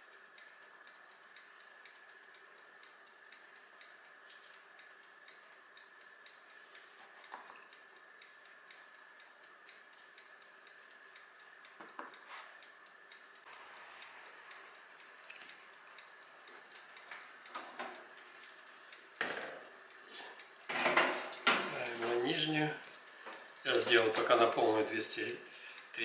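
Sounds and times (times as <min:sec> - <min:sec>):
faint high hum: 0:00.0 - 0:26.0
faint steady ticking: 0:00.0 - 0:26.0.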